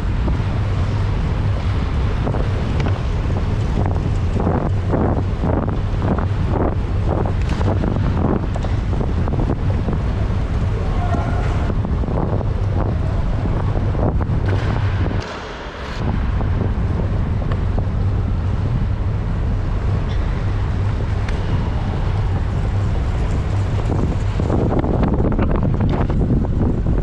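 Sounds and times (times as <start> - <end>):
steady low rumble: 0.0 - 27.0
wind rushing over microphone: 0.0 - 27.0.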